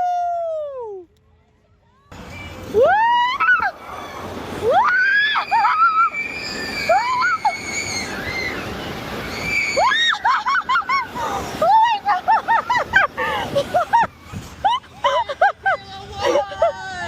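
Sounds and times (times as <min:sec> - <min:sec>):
people whooping and screaming: 0:00.0 - 0:01.0, 0:02.0 - 0:17.0.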